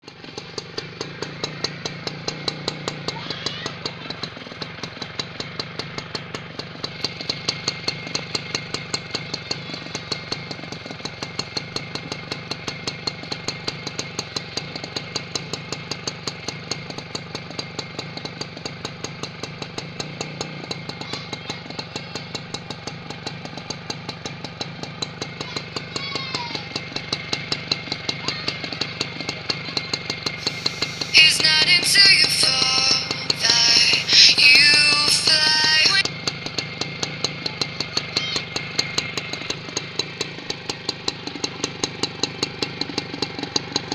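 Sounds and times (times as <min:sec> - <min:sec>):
small motorcycle engine idling: 0:00.0 - 0:43.9.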